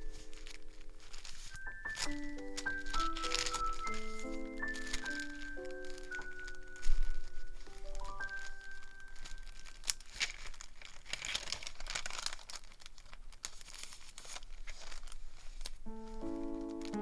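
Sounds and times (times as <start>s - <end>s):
paper pages rustling and crinkling: 0.0s - 17.0s.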